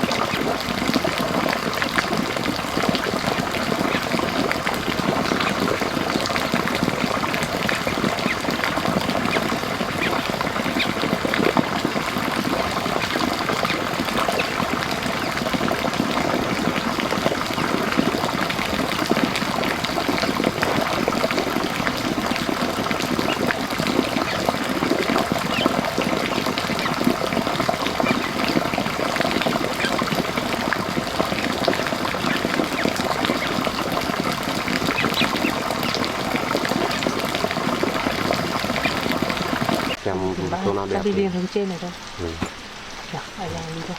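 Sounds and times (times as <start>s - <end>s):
running water splashing: 0.0s - 43.9s.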